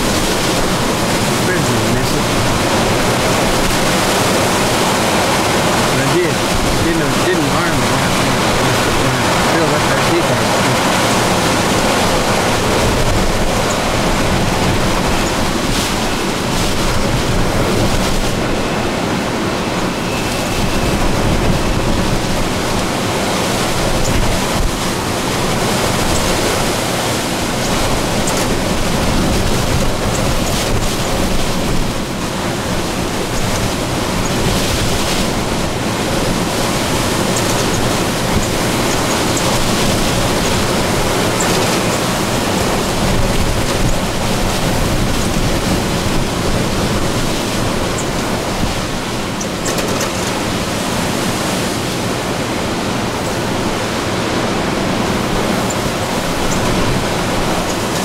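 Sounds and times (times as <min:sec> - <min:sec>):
strong wind rushing: 0:00.0 - 0:58.0
wind buffeting microphone: 0:00.0 - 0:58.0.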